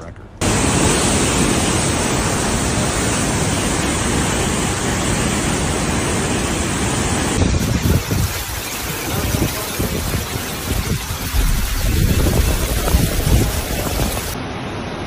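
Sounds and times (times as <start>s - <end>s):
gusty rushing noise: 0.4s - 14.9s
river torrent roaring: 0.4s - 15.0s.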